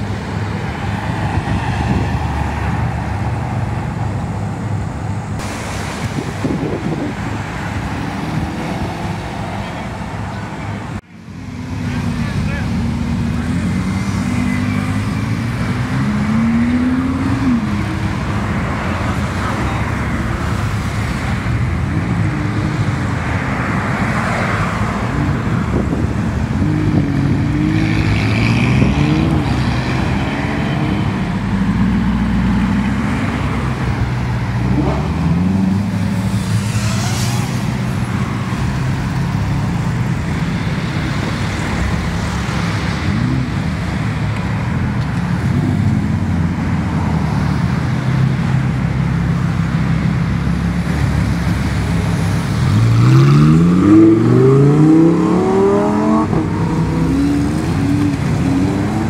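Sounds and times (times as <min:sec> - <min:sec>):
road noise: 0:00.0 - 0:59.0
sports car engines accelerating: 0:06.5 - 0:59.0.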